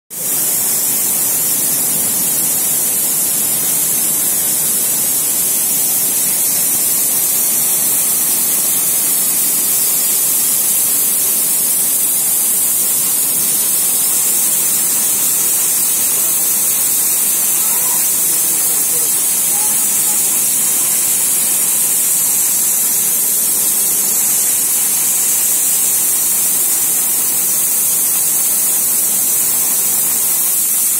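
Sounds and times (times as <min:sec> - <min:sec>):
nozzles spraying water mist: 0:00.1 - 0:30.9.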